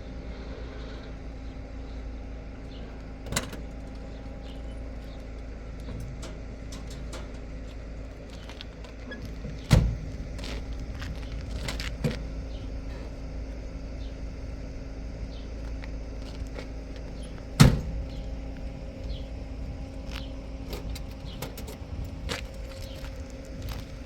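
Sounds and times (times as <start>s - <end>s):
car engine drone from inside: 0.0s - 24.0s.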